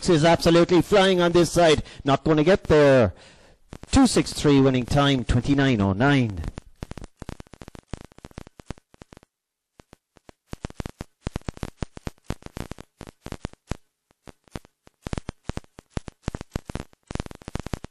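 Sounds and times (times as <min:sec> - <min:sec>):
crackling static clicks: 0:00.0 - 0:17.9.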